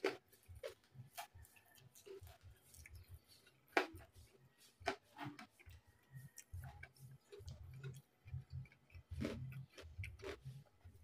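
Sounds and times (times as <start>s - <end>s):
chewing and crunching crispy food: 0.0s - 11.0s.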